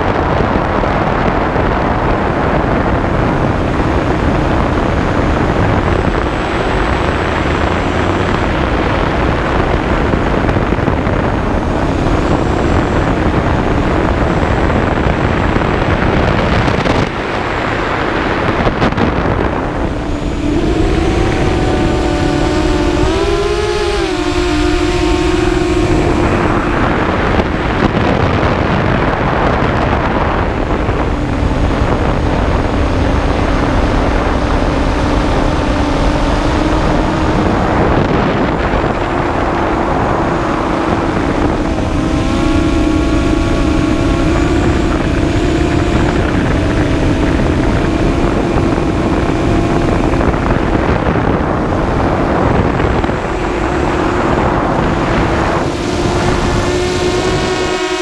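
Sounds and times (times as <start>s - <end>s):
drone propellers whining: 0.0s - 58.0s
wind rushing on microphone: 0.0s - 58.0s.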